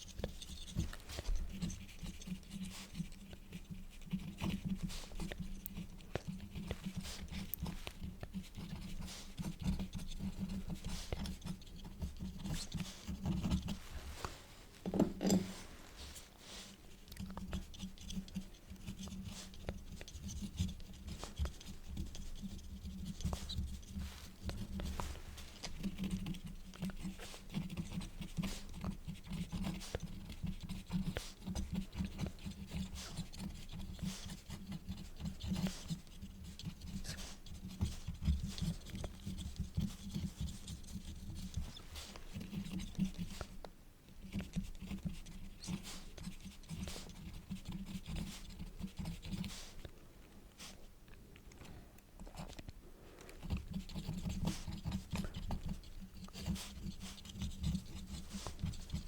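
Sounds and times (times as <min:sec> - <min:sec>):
pen nib scratching paper: 0:00.0 - 0:49.9, 0:53.3 - 0:59.0.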